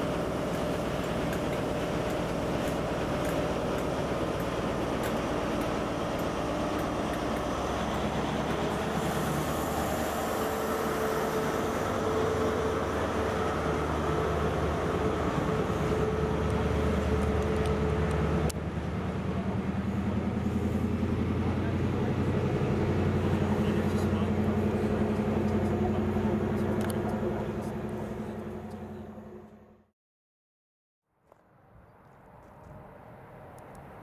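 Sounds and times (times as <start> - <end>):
diesel engine whine: 0.0 - 29.9
train rail rumble: 0.0 - 29.9.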